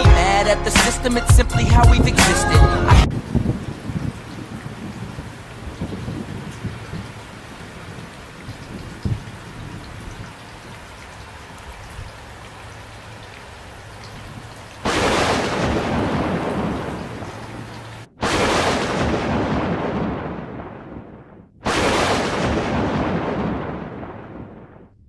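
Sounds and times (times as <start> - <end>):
thunderclap rumbling: 1.6 - 12.2, 13.8 - 25.0
steady rain falling: 1.9 - 24.8.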